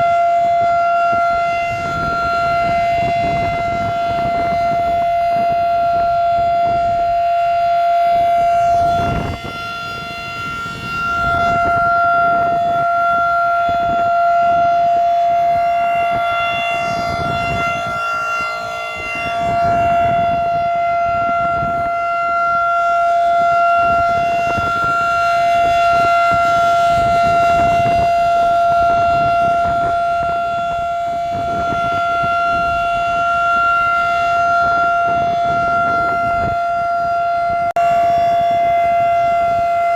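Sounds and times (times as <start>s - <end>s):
tornado warning siren: 0.0s - 39.9s.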